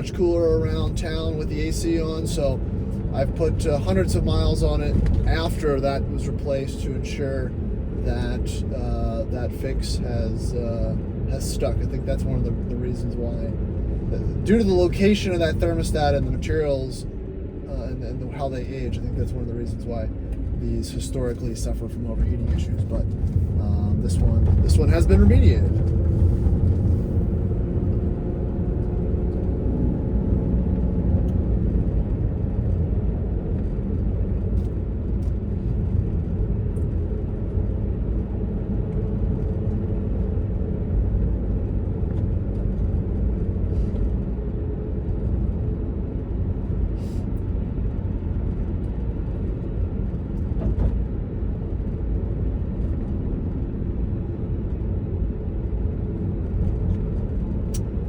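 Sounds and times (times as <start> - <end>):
car engine droning: 0.0 - 58.0
road noise: 0.0 - 58.0.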